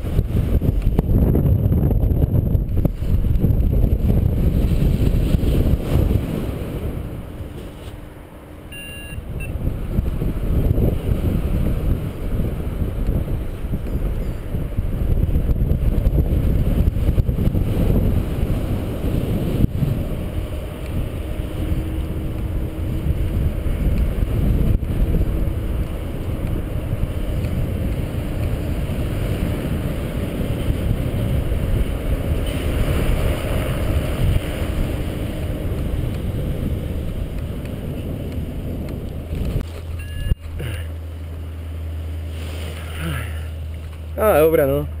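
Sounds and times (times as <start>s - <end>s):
wind buffeting microphone: 0.0s - 42.3s.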